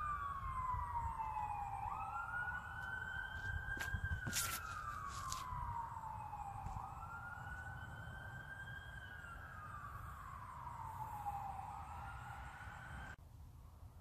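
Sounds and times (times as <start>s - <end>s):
emergency siren wailing: 0.0s - 13.2s.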